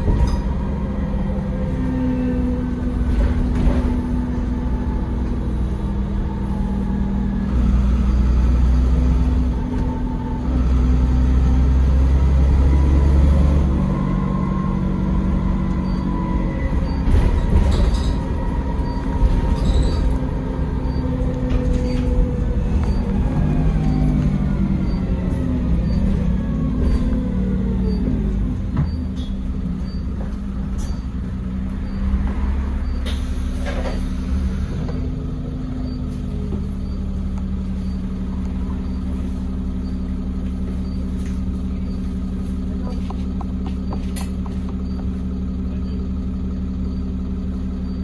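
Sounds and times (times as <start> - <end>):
bus engine drone with whine: 0.0 - 48.0.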